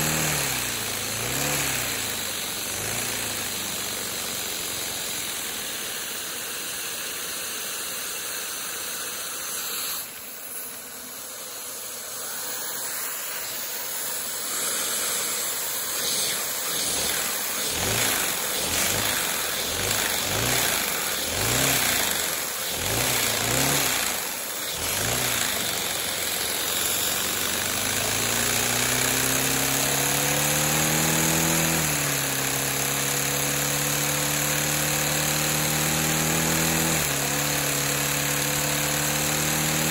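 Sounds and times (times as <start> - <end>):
small engine clattering and whirring: 0.0 - 10.4, 13.4 - 39.9.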